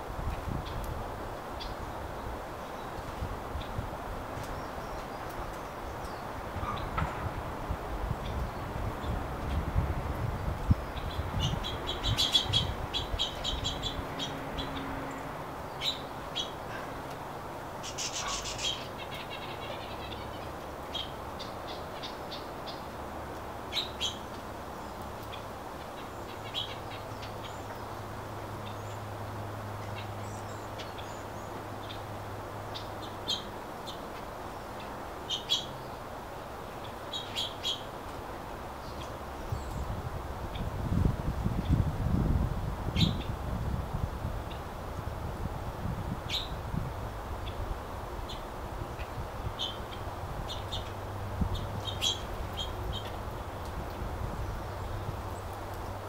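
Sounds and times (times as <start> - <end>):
songbirds chirping: 0.0 - 42.0, 42.8 - 43.4, 44.3 - 56.0.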